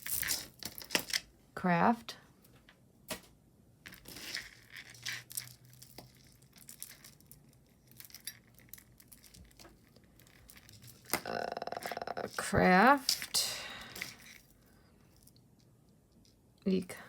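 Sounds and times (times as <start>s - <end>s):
jewelry and metal chains clinking: 0.0s - 1.2s, 3.9s - 17.0s
soft crinkling: 2.3s - 17.0s.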